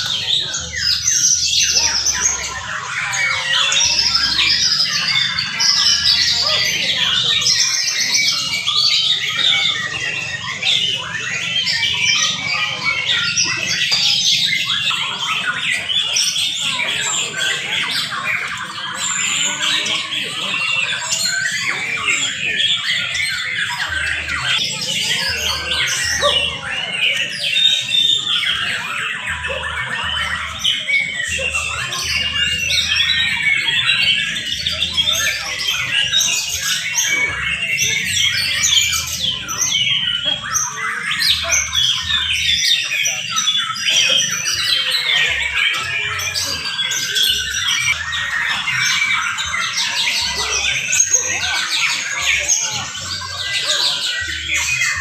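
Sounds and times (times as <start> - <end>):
many songbirds singing: 0.0 - 55.0.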